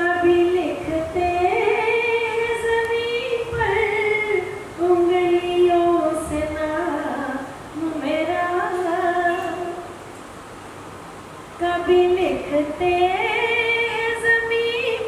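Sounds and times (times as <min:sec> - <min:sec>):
woman singing: 0:00.0 - 0:10.0, 0:11.6 - 0:15.0.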